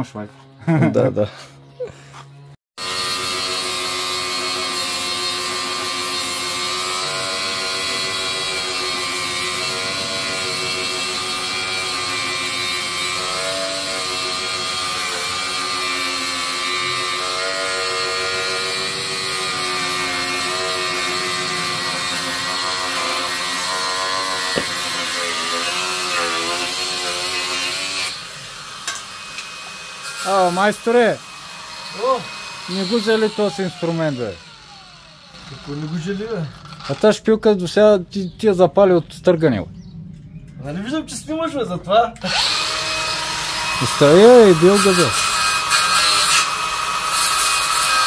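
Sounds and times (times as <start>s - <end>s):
angle grinder cutting steel: 2.8s - 37.2s, 42.2s - 48.0s.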